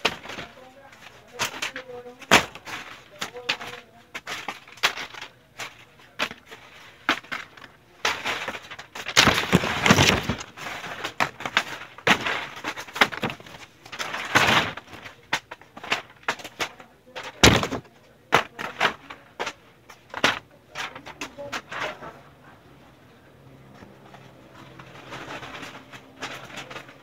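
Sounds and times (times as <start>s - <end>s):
knocks clatters and crashes: 0.0s - 22.4s, 23.6s - 27.0s.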